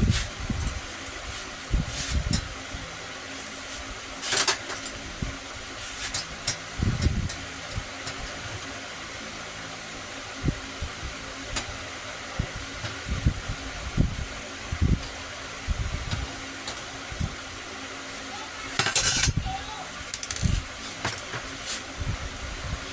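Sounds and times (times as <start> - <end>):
low mains hum: 0.0 - 22.9
small electric fan running: 0.0 - 22.9.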